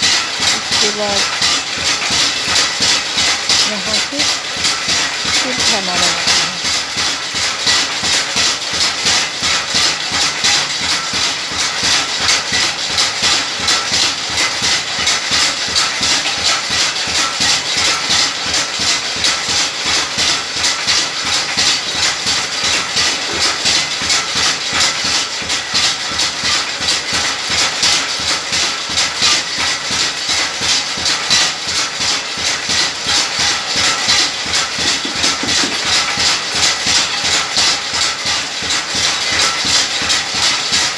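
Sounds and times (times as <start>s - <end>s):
machine pestle pounding metal bowl: 0.0s - 40.9s.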